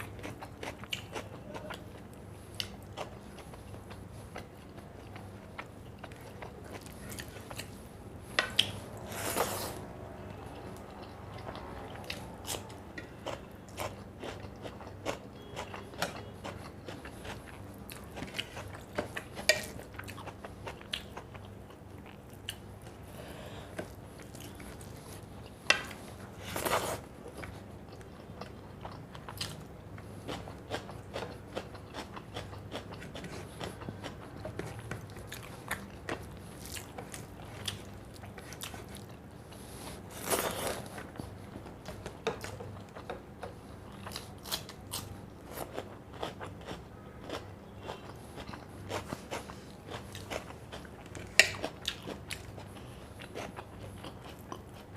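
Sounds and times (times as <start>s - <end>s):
chewing and crunching: 0.0s - 23.1s, 23.8s - 54.9s.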